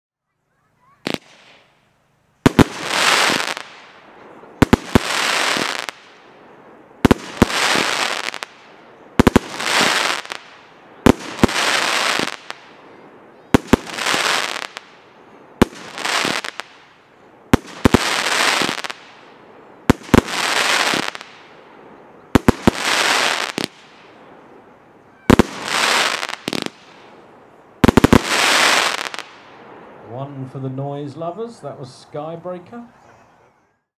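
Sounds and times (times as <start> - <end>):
firework crackling: 0.9 - 31.1
firework bangs: 1.0 - 30.0.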